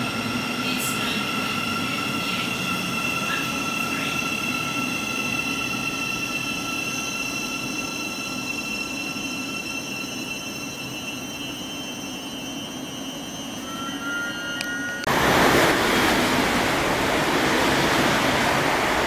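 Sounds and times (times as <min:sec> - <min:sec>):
high-pitched train tones: 0:00.0 - 0:16.7
electric train rumbling: 0:00.0 - 0:19.0.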